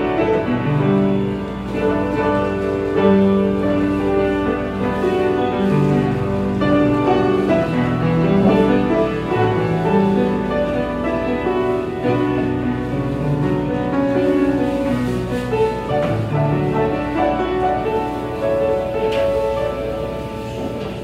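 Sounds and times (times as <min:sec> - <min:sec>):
slow piano piece: 0:00.0 - 0:21.0.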